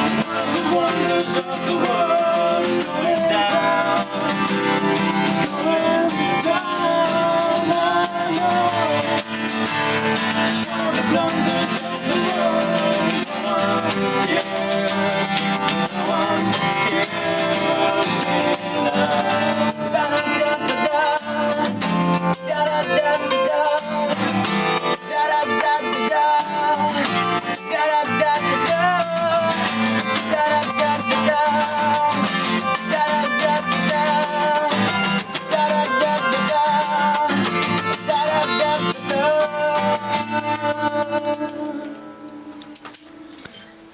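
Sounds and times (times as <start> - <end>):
melodic lead guitar line: 0.0 - 43.9
rattling hand percussion: 0.0 - 43.9
strummed acoustic guitars: 0.0 - 43.9.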